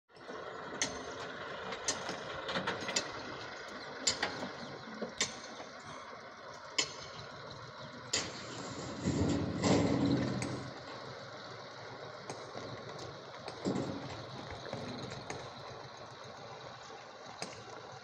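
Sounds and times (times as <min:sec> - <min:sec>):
diesel engines rumbling: 0:00.1 - 0:18.0.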